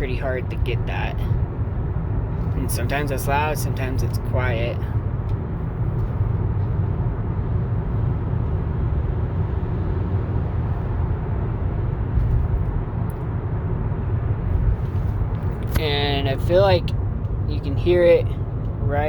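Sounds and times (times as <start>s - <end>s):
car road and drivetrain rumble: 0.0s - 19.0s.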